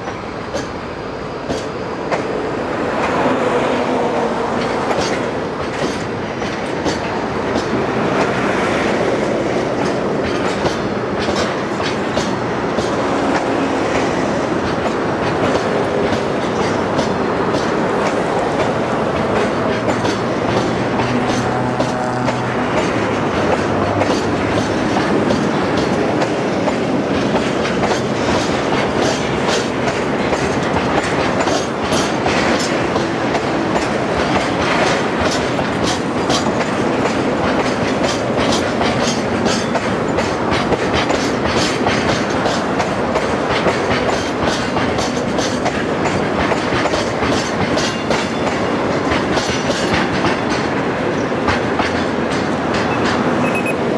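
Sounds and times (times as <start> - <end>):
train wheels clacking over rail joints: 0.0 - 53.9.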